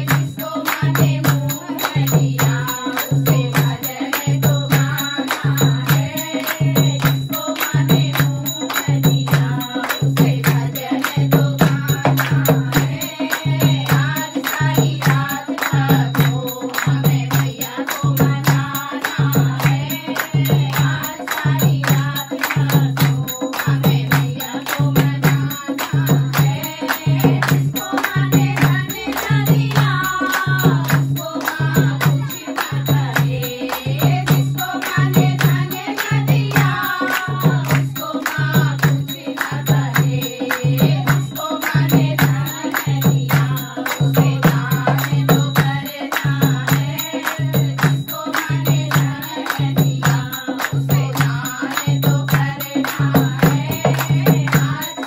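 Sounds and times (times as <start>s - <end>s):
hand clapping: 0.0s - 55.0s
hand drum beat: 0.0s - 55.0s
women singing together: 0.0s - 55.0s.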